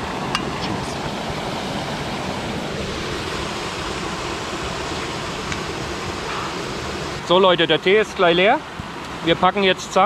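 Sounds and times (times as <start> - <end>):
waterfall splashing: 0.0 - 8.5.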